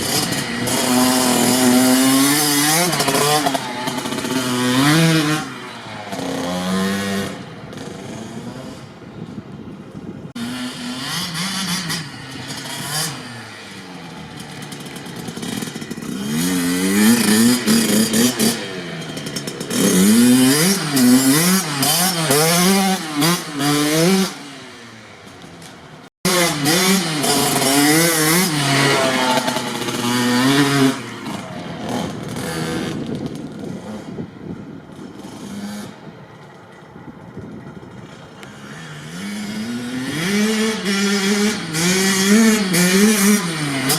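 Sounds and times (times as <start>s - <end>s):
dirt bike engine revving: 0.0s - 8.9s, 10.3s - 25.0s, 26.0s - 34.3s, 38.4s - 43.9s.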